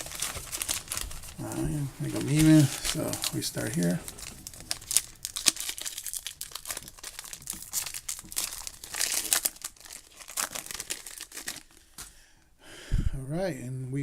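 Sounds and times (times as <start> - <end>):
wrapper crinkling and rustling: 0.0 - 12.1.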